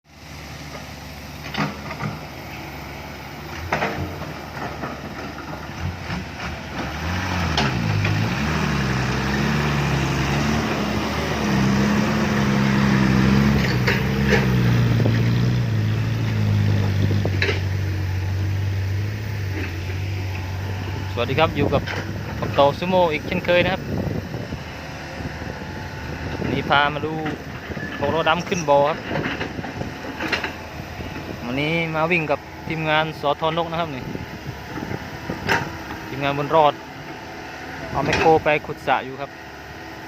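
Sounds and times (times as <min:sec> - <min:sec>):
heavy diesel engine working: 0:00.1 - 0:40.0.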